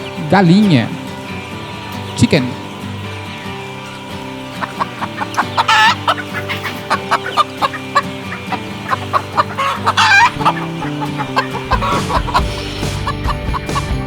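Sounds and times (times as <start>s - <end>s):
background music with held notes: 0.0s - 14.0s
hen squawks: 0.0s - 14.0s
hens clucking: 0.0s - 14.0s.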